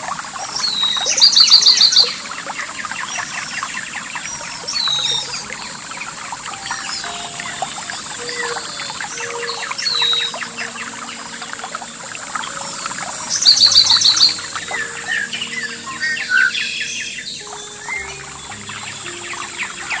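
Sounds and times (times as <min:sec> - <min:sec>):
songbirds chirping: 0:00.0 - 0:20.0
steady high hiss: 0:00.0 - 0:20.0.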